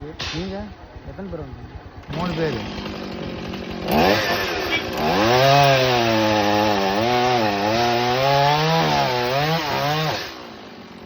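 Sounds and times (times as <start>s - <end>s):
chainsaw cutting wood: 1.8s - 11.0s.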